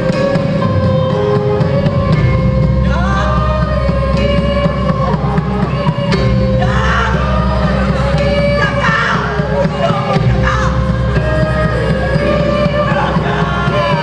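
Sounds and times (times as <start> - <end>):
theatre music with held tone: 0.0 - 14.0
person singing wavering phrases: 2.7 - 14.0.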